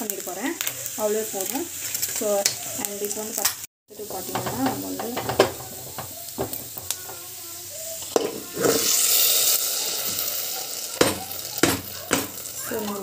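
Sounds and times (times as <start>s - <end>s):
hot ghee sizzling: 0.0s - 13.0s.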